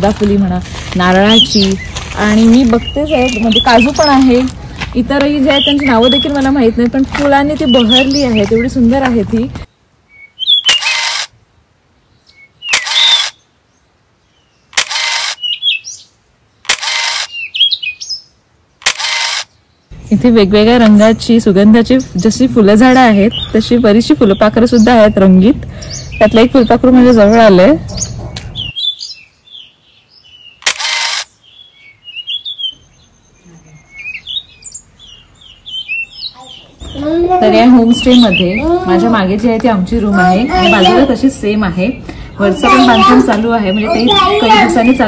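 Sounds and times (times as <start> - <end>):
birds chirping and whistling: 1.0 - 11.2, 12.2 - 13.5, 14.3 - 16.1, 16.8 - 18.3, 19.0 - 45.0.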